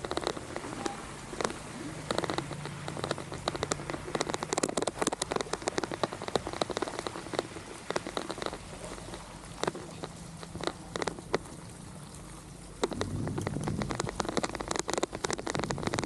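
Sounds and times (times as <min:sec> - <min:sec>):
rain hiss: 0:00.0 - 0:16.0
raindrops tapping: 0:00.0 - 0:16.0.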